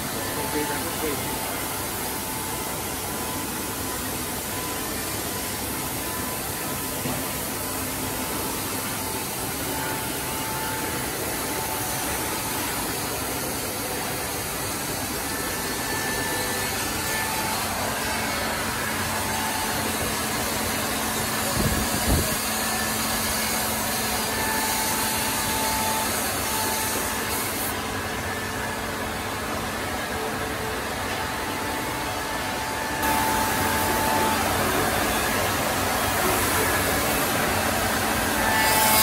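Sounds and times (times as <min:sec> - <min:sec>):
milling machine whirring: 0:00.0 - 0:39.0.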